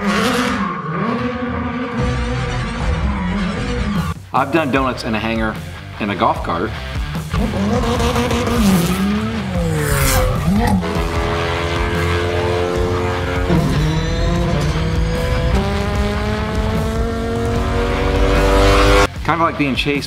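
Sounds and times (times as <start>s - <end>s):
car engine revving: 0.0s - 4.9s, 6.7s - 19.3s.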